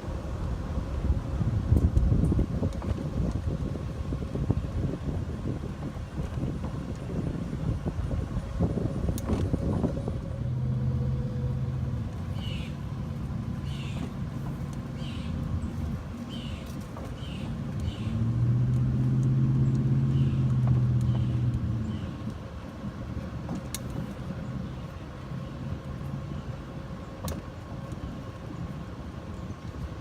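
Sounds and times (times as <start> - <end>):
vehicle motor humming: 0.0 - 30.0.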